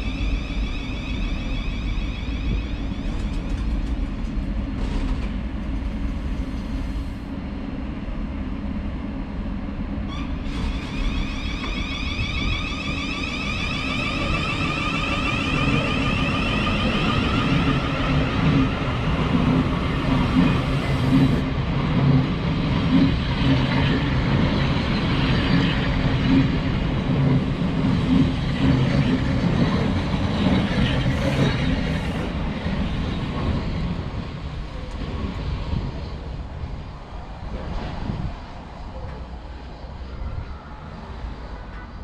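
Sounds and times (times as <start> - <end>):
electric train rumbling past: 0.0 - 42.0.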